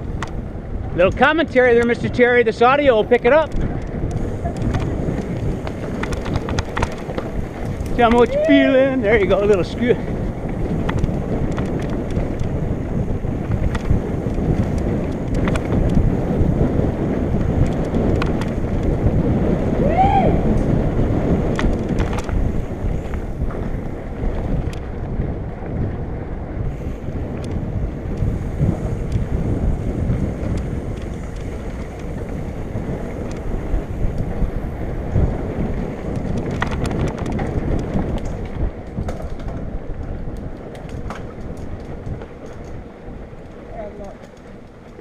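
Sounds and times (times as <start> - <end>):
bike clicks and rattles: 0.0 - 45.0
tyres rumbling over dirt: 0.0 - 45.0
wind buffeting microphone: 0.0 - 45.0.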